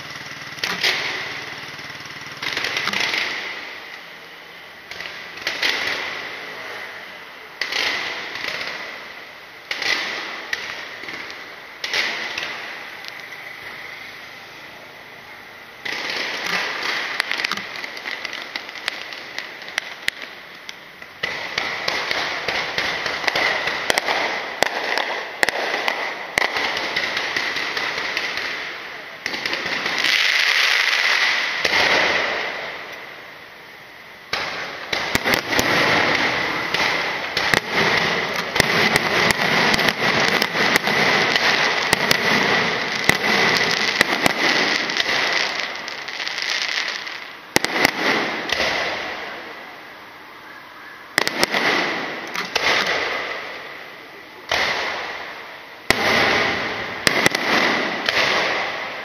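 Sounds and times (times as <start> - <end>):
fireworks and firecrackers popping: 0.0 - 59.0.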